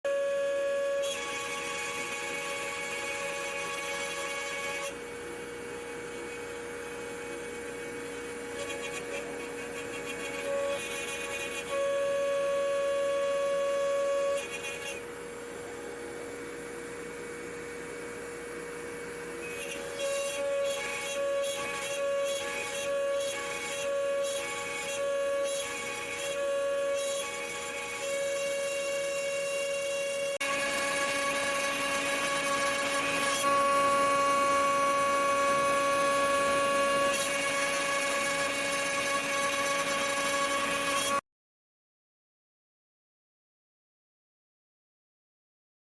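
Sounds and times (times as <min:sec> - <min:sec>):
router cutting wood: 0:00.1 - 0:16.7, 0:17.6 - 0:41.2
router spindle high whine: 0:00.1 - 0:41.2.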